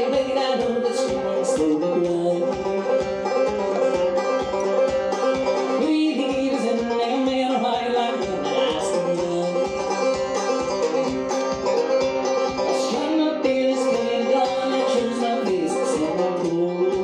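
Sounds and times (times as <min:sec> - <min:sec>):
banjo picking: 0:00.0 - 0:17.0.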